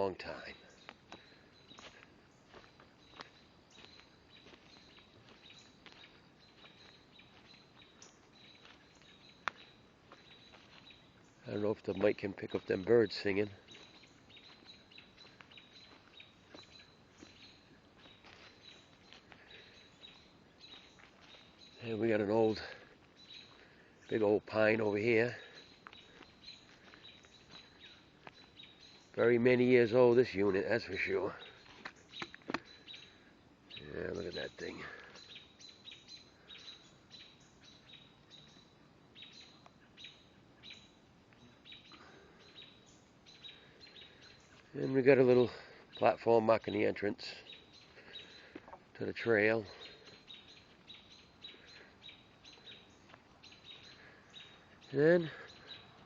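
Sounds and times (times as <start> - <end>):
birds chirping and singing: 0.0 - 56.0.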